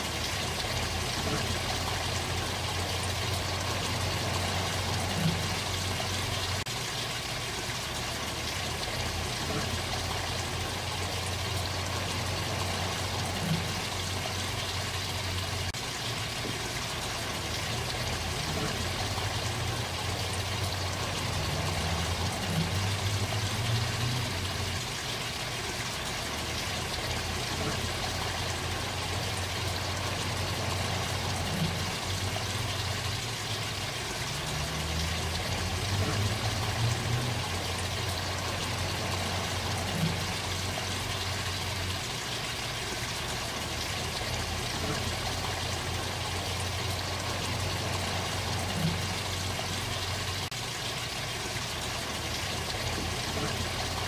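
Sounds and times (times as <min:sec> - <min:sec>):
low steady rumble: 0:00.0 - 0:54.0
water splashing over rocks: 0:00.0 - 0:54.0.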